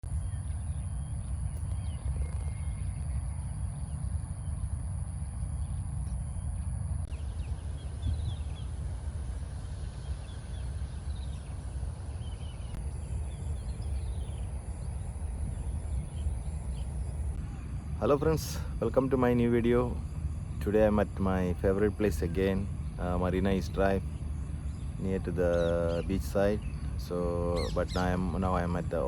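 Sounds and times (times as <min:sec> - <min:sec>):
steady low rumble: 0:00.0 - 0:29.0
faint bird chirps: 0:00.1 - 0:29.0.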